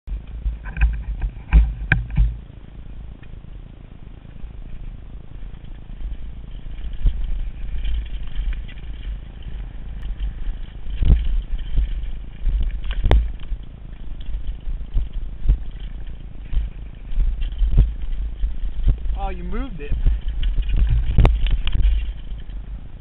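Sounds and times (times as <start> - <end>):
wind rumble on microphone: 0.0 - 23.0
tyres rolling over dirt: 0.1 - 23.0
bike parts rattling: 4.2 - 23.0.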